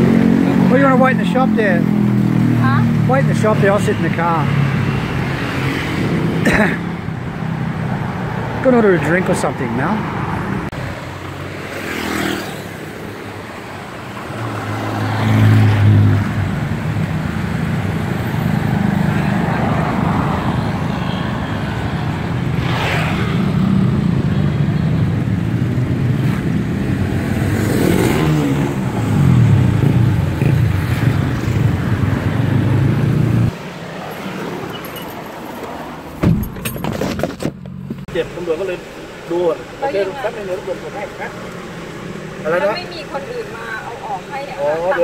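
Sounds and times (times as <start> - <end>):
motorbikes and cars passing: 0.0 - 45.0.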